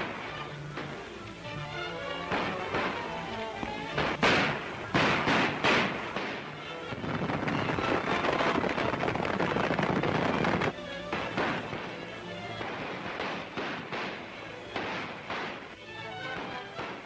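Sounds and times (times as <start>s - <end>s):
gunshots: 0.0s - 1.0s, 2.1s - 17.0s
background music: 0.0s - 17.0s.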